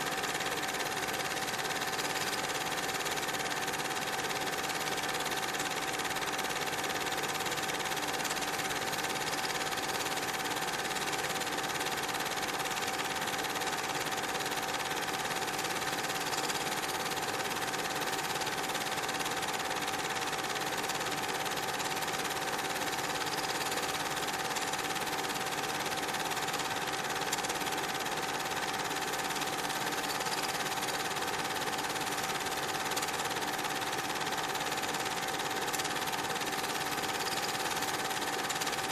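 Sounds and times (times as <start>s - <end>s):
small machine running: 0.0s - 38.9s.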